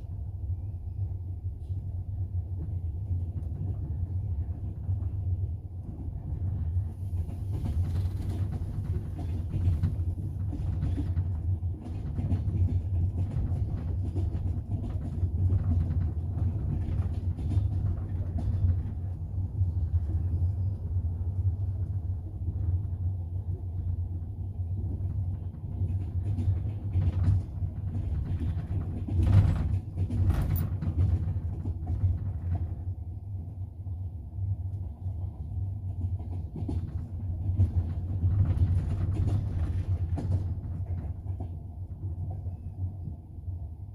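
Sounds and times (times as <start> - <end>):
train running gear rumble: 0.0 - 43.9
wheels clicking on rails: 3.0 - 32.9, 35.5 - 42.5.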